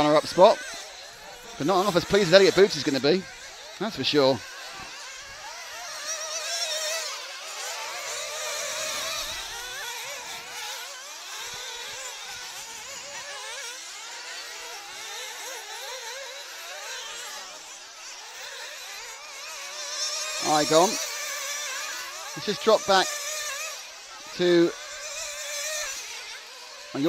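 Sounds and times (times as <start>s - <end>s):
model car engines buzzing: 0.0s - 27.0s.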